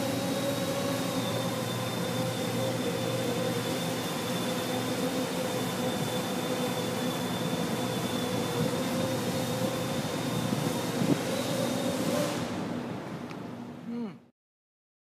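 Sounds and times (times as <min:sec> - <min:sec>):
drone motors buzzing whine: 0:00.0 - 0:13.2.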